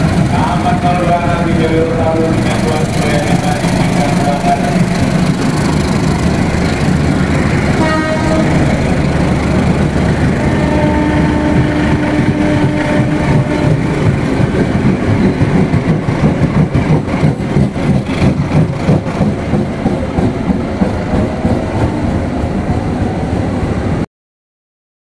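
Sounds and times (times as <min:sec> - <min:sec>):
train rumbling past: 0:00.0 - 0:24.1.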